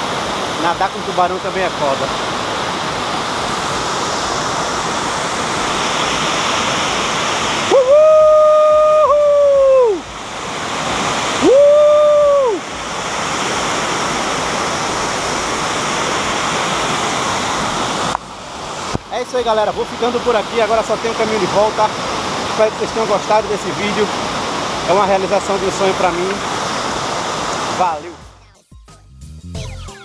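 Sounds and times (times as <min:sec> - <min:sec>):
waterfall roaring over rocks: 0:00.0 - 0:28.3.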